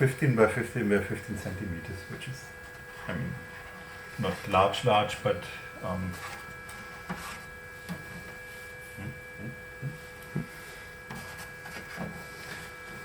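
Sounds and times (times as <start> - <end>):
printer electrical hum: 0.0 - 13.0.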